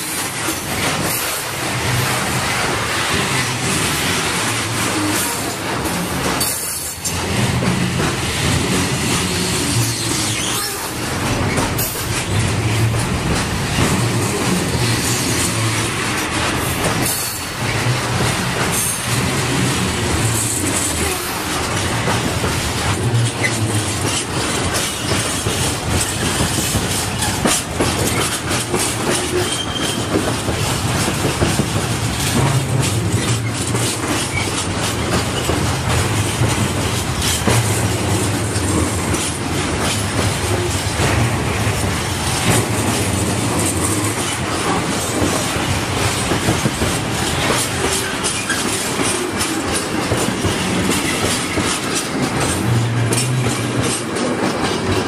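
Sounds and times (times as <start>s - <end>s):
freight train rolling past: 0.0s - 55.0s
wheels clacking over rail joints: 0.0s - 55.0s.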